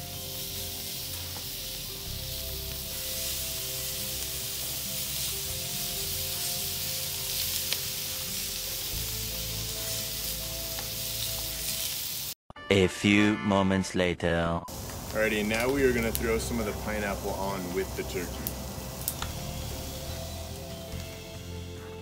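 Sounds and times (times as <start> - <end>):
meat sizzling on grill: 0.0 - 12.4, 14.7 - 22.0.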